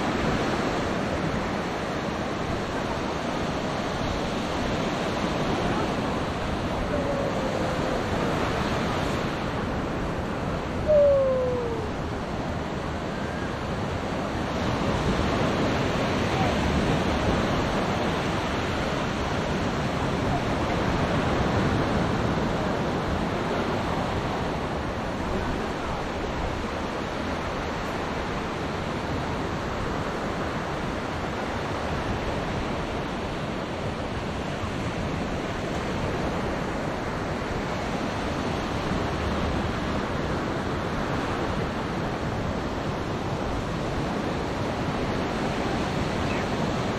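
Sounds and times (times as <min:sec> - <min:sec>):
waves washing up shore: 0:00.0 - 0:46.9
wind on microphone: 0:00.0 - 0:46.9.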